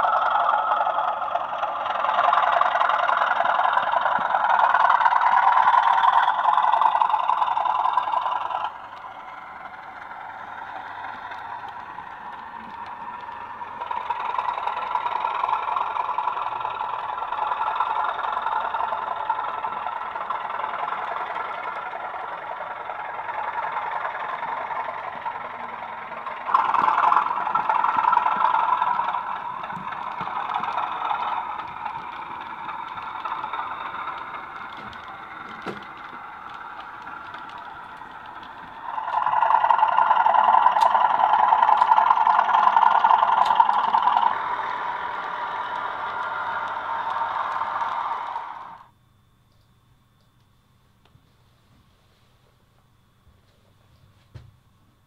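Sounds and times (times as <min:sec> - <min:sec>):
model locomotive engine drone: 0:00.0 - 0:50.4.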